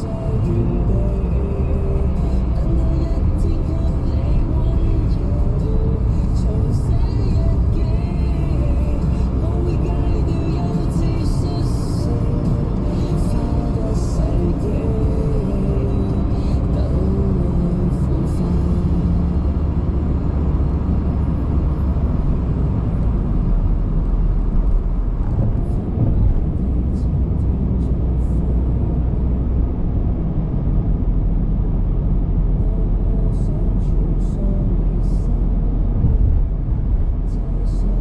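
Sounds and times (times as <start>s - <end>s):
tyre and road noise: 0.0s - 38.0s.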